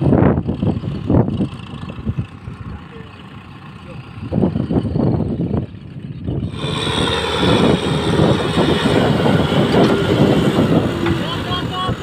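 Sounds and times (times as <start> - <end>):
tractor diesel engine straining: 0.0 - 12.0.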